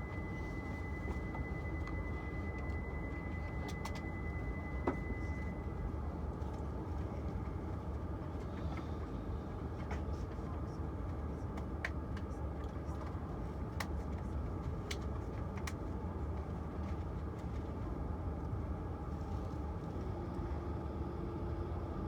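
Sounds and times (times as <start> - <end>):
train cabin rumble and rush: 0.0 - 22.0.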